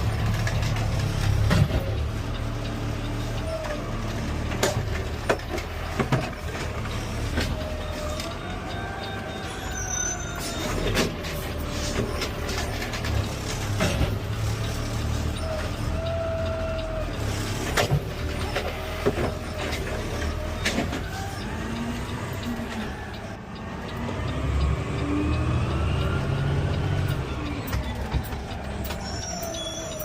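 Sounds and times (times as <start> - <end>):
garbage truck engine hum: 0.0 - 30.0.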